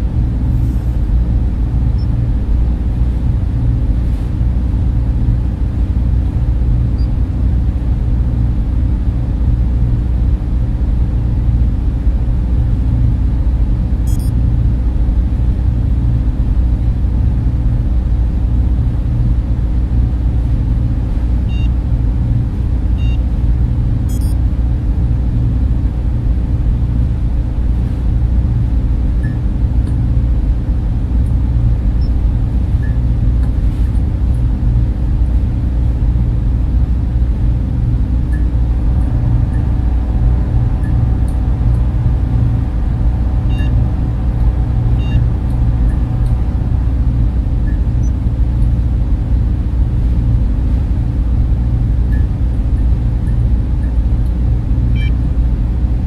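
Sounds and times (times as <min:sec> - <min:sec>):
cooling fans humming: 0:00.0 - 0:56.0.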